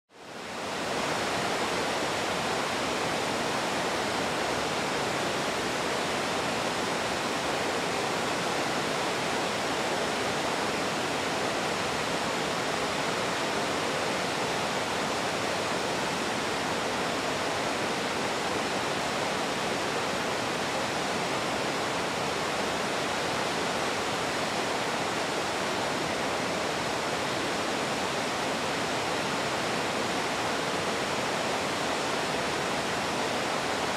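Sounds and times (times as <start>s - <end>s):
large waterfall rushing: 0.1s - 33.9s.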